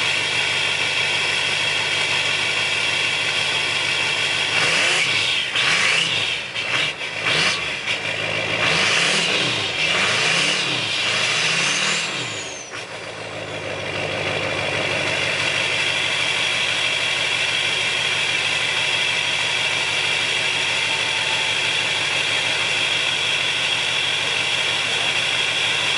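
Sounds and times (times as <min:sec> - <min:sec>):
diesel engine revving and idling: 0:00.0 - 0:25.9.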